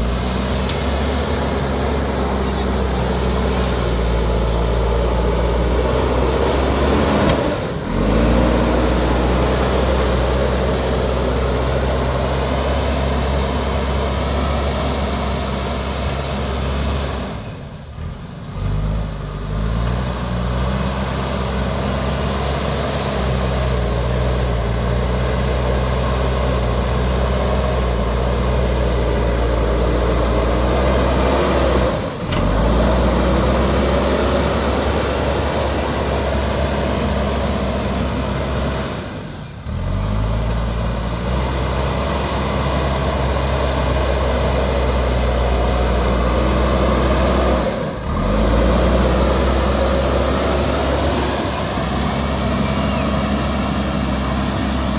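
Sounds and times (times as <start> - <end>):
diesel engine running under load: 0.0 - 54.9.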